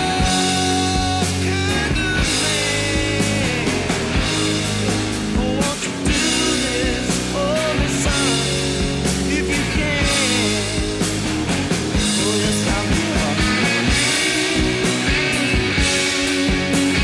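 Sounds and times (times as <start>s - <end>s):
person singing: 0.0s - 11.2s, 12.0s - 17.0s
rock music: 0.0s - 17.0s
steady drum beat: 0.0s - 17.0s.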